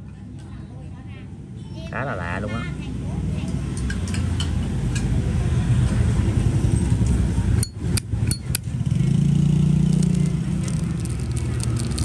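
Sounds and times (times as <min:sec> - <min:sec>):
motorbike street traffic rumble: 0:00.0 - 0:12.0.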